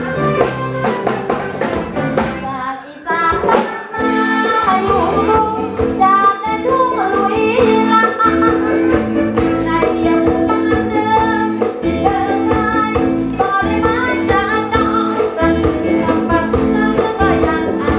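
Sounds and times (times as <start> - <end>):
band accompaniment: 0.0 - 17.9
woman singing into a microphone: 2.3 - 17.9.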